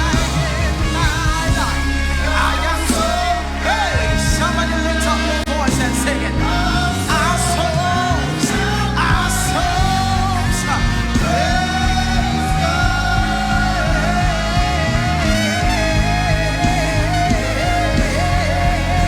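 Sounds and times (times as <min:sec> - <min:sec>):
bass notes: 0:00.0 - 0:19.0
keyboard: 0:00.0 - 0:19.0
sung melody: 0:00.0 - 0:19.0.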